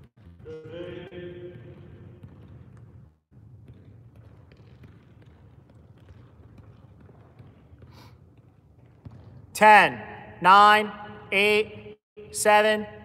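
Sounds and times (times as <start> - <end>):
low hum of hall: 0.0 - 13.0.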